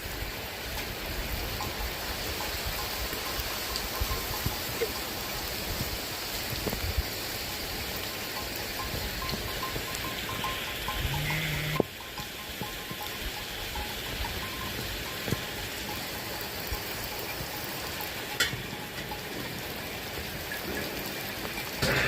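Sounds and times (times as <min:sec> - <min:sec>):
steady rain falling: 0:00.0 - 0:22.0
sharp drip-like knocks: 0:00.7 - 0:22.0.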